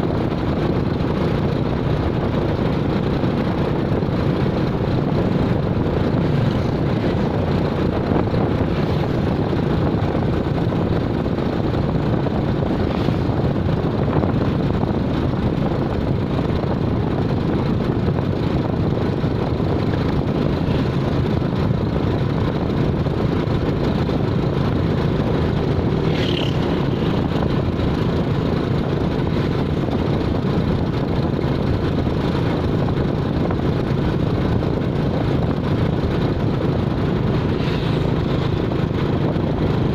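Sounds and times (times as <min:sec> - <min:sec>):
road noise: 0:00.0 - 0:39.9
vehicle engine rumble: 0:00.0 - 0:39.9.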